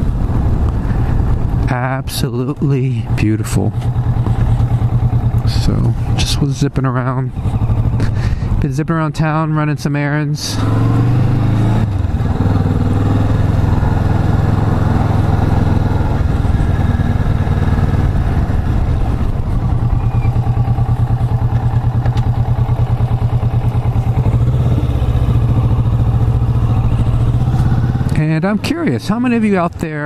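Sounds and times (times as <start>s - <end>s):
motorcycle engine running at low revs: 0.0s - 9.2s, 10.5s - 29.8s.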